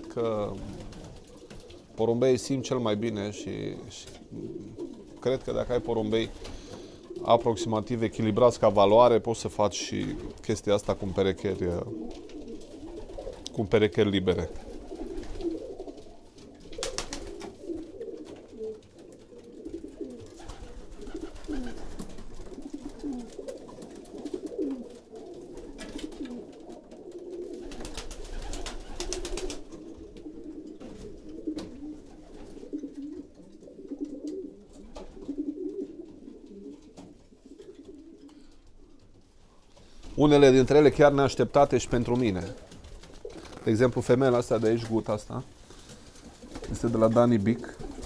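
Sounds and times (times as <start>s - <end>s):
pigeons cooing: 0.0s - 9.0s, 9.8s - 39.2s, 41.9s - 44.9s, 45.5s - 48.0s.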